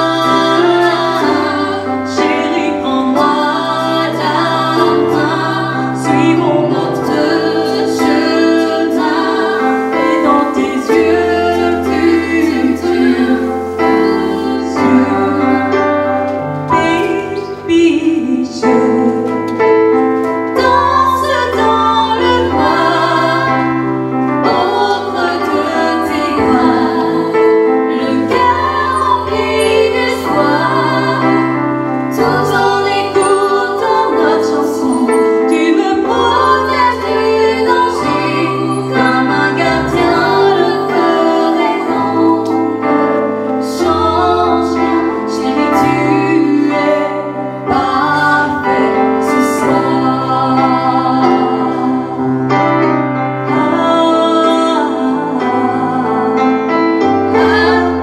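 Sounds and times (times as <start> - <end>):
woman singing into microphone: 0.0 - 52.5, 53.5 - 58.0.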